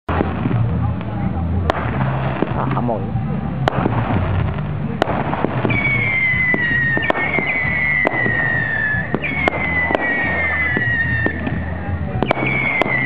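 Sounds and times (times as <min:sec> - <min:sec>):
fireworks bangs and crackles: 0:00.1 - 0:13.0.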